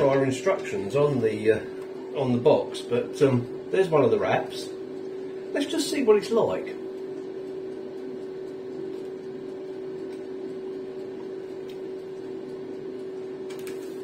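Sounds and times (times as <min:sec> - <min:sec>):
air fryer fan hum: 0:00.0 - 0:14.0.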